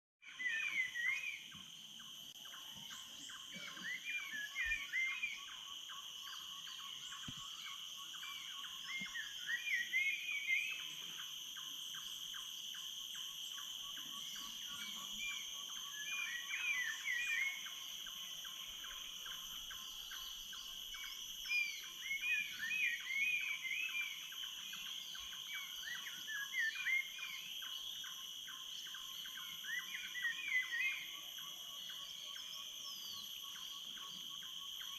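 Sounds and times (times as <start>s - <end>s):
high insect drone: 0.3s - 34.9s.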